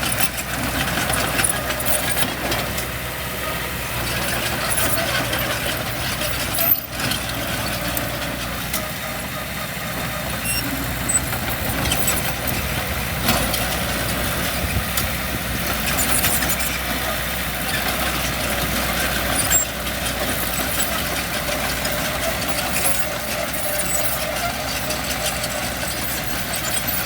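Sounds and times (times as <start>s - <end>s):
diesel machinery rumbling: 0.0s - 27.0s.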